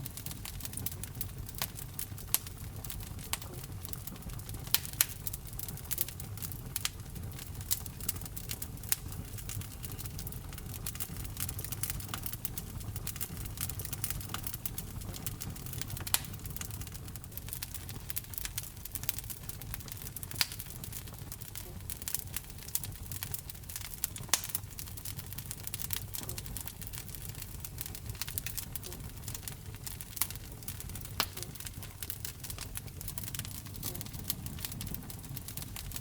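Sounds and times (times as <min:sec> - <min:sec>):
fire crackling and popping: 0:00.0 - 0:36.0
low rumble of fire flames: 0:00.0 - 0:36.0.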